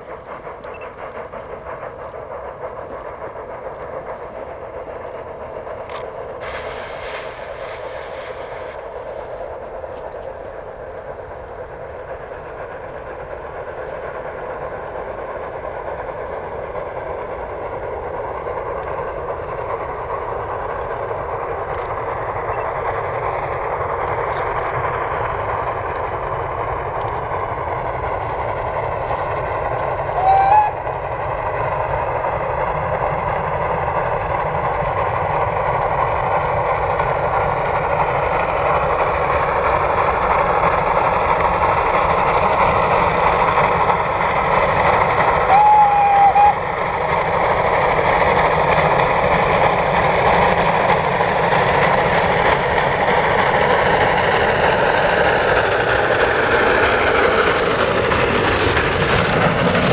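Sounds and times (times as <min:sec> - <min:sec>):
steam train running: 0:00.0 - 0:59.9.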